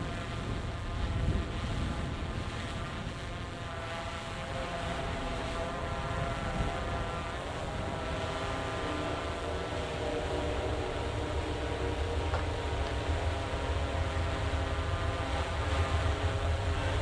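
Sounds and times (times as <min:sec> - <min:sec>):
distant engine drone: 0:00.0 - 0:17.0
wind noise: 0:00.0 - 0:17.0.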